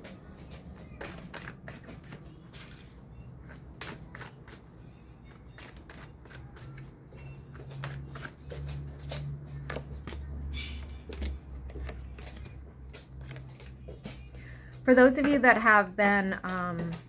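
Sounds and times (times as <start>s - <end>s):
cards shuffling and snapping: 0.7s - 14.4s.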